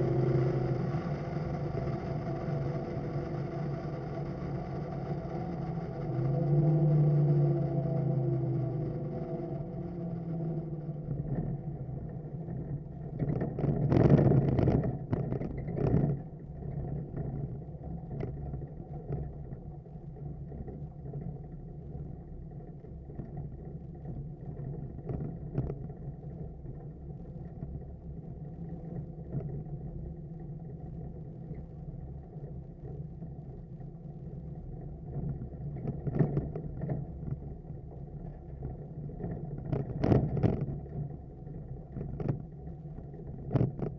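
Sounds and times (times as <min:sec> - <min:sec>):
car engine drone from cabin: 0:00.0 - 0:43.9.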